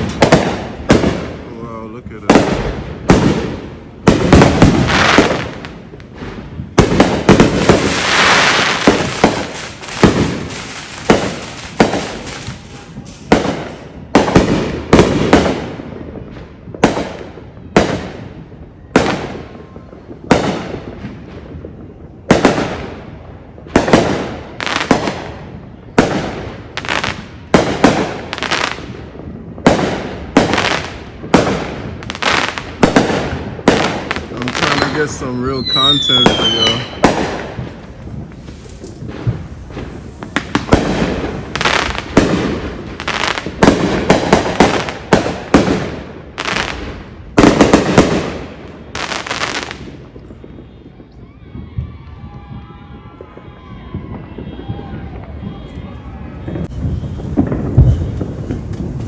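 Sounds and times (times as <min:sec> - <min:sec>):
fireworks crackling hiss: 0:00.0 - 0:15.8, 0:19.7 - 0:52.5, 0:55.9 - 0:59.0
fireworks bangs: 0:00.0 - 0:59.0.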